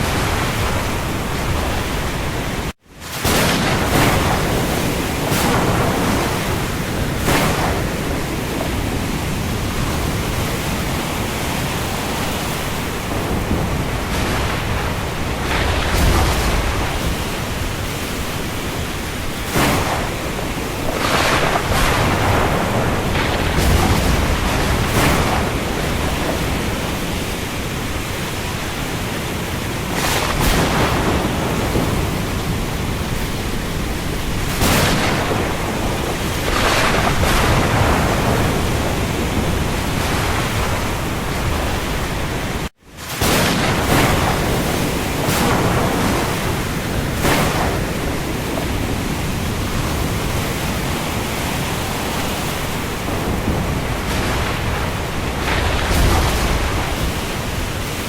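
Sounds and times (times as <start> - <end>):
heavy rain on the sea: 0.0 - 58.0.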